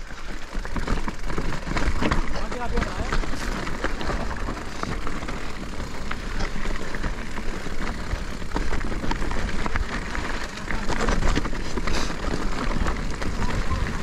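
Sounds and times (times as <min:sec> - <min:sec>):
bike chain and frame rattling: 0:00.0 - 0:14.0
bike tyres rumbling on trail: 0:00.0 - 0:14.0
wind: 0:00.0 - 0:14.0.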